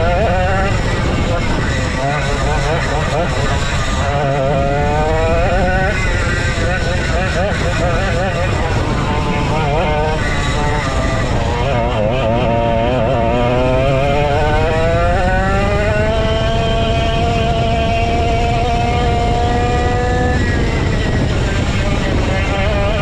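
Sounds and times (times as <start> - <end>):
go-kart engine racing: 0.0 - 23.0.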